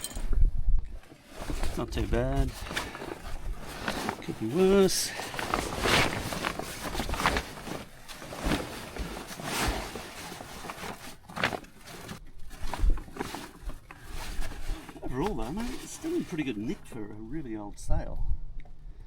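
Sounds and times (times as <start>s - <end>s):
sailcloth rustling: 1.0s - 17.6s.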